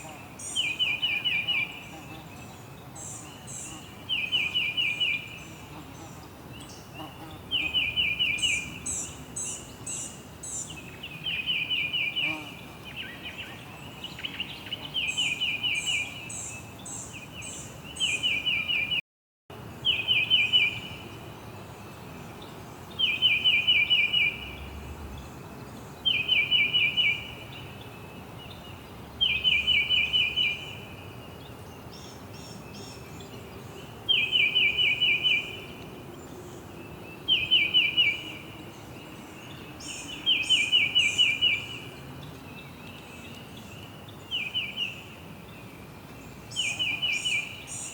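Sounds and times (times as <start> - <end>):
background hiss: 0.0 - 19.0, 19.6 - 47.9.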